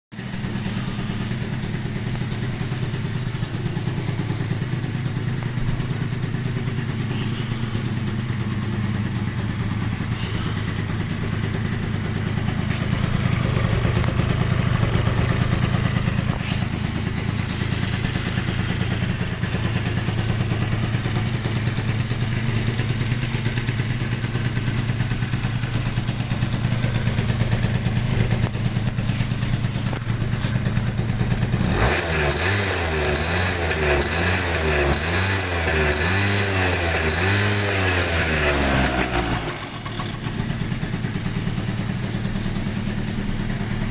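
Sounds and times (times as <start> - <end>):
scooter engine idling: 0.1 - 43.9.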